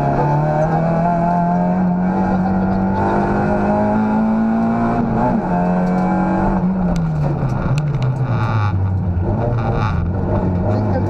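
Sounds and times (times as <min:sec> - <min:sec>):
car engine revving under load: 0:00.0 - 0:11.0.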